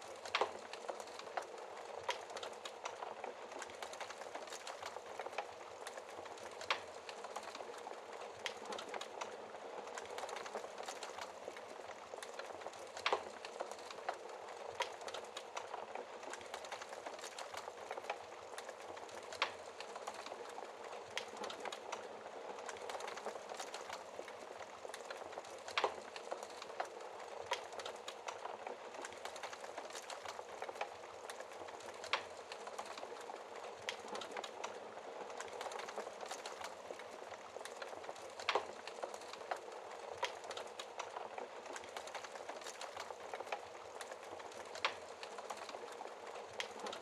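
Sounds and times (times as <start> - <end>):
log fire crackling and popping: 0.0 - 47.0.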